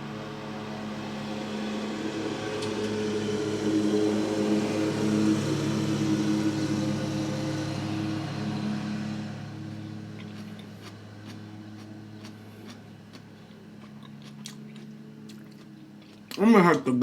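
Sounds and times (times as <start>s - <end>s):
lawn mower engine running: 0.0s - 13.8s.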